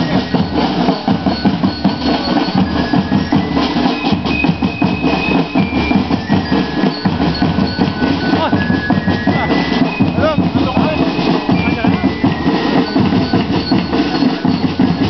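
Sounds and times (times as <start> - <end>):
marching drum band: 0.0 - 15.0.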